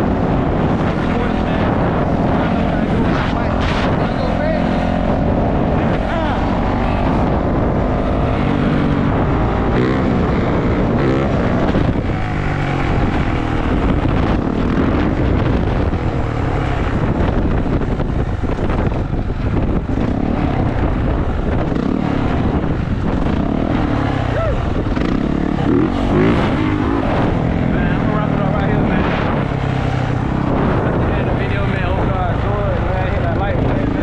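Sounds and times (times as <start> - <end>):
dirt bike engine revving: 0.0 - 34.0
wind rushing over microphone: 0.0 - 34.0.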